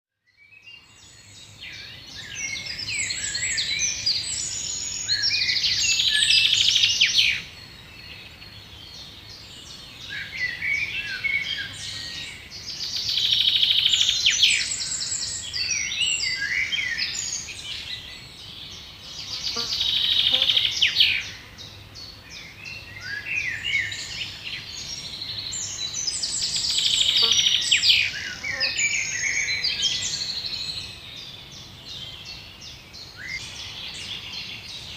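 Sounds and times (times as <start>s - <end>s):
songbird singing with trills: 0.2s - 34.9s.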